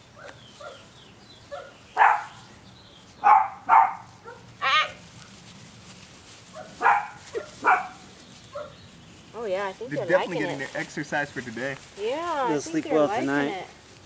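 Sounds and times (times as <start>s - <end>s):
puppies yipping: 0.0s - 13.7s.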